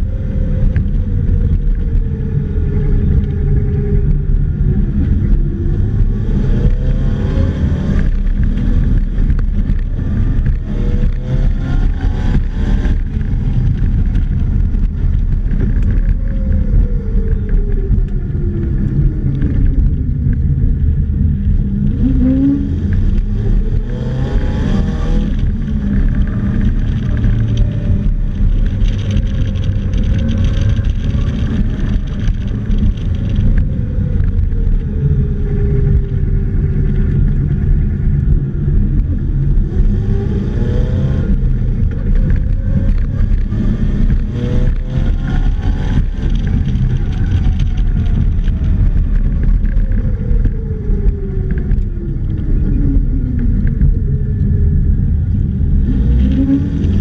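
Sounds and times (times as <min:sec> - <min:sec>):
engine accelerating and easing off: 0:00.0 - 0:57.0
heavy wind rumble: 0:00.0 - 0:57.0.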